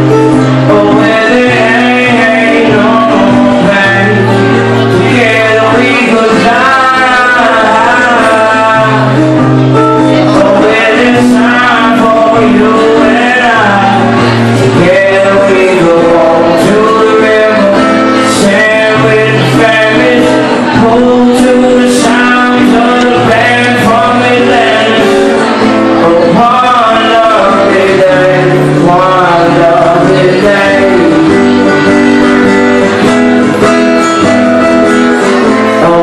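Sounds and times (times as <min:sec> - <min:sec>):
acoustic guitar: 0:00.0 - 0:36.0
man singing: 0:00.0 - 0:36.0.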